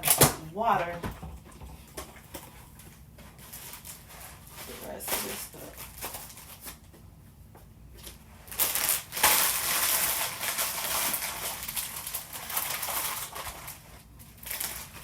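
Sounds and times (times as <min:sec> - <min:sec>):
packaging rustling and crinkling: 0:02.0 - 0:07.0, 0:08.0 - 0:15.0.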